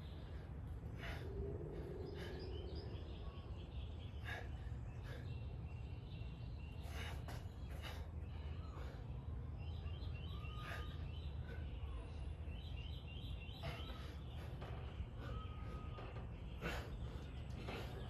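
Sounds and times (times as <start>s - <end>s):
birds chirping: 0.0s - 18.0s
low street rumble: 0.0s - 18.0s.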